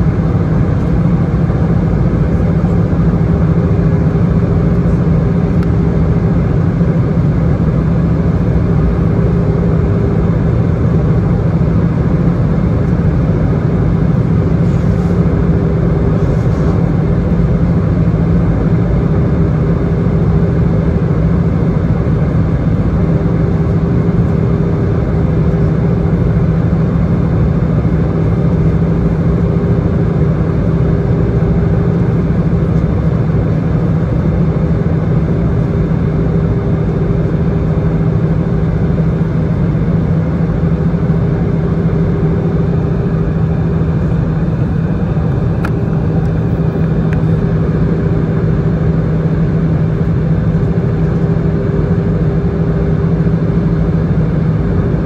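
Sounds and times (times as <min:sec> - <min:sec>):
jet engines droning: 0:00.0 - 0:55.0
steady low hum: 0:00.0 - 0:55.0.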